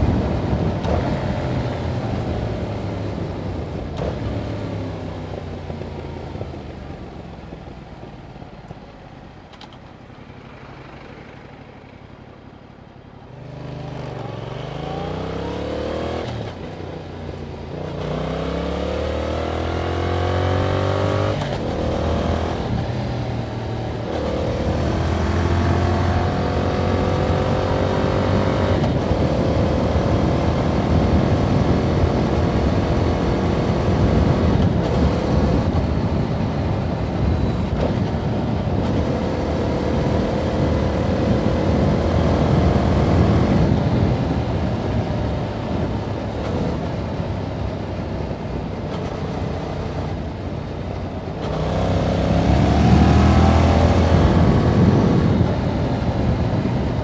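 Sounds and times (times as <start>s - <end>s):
wind noise: 0.0s - 7.6s, 18.0s - 57.0s
motorcycle engine accelerating: 0.0s - 57.0s
road noise: 0.0s - 57.0s.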